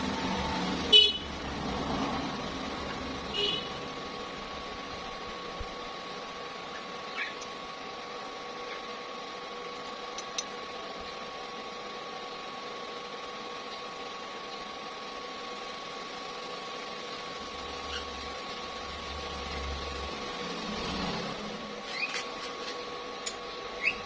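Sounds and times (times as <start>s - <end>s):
mechanical hum with whine: 0.0s - 24.0s.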